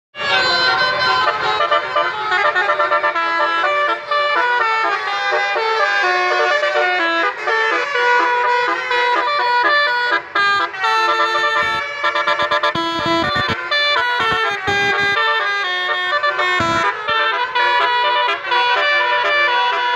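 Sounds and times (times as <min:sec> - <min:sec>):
musical horn playing a melody: 0:00.2 - 0:19.9.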